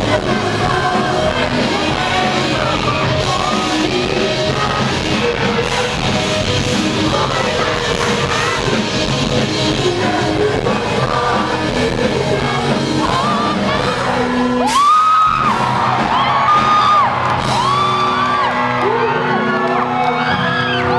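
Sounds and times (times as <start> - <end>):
rock band playing live: 0.0 - 20.9.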